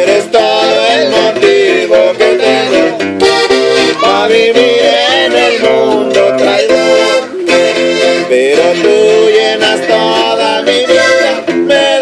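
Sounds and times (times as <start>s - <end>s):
accordion melody: 0.0s - 12.0s
strummed guitar: 0.0s - 12.0s.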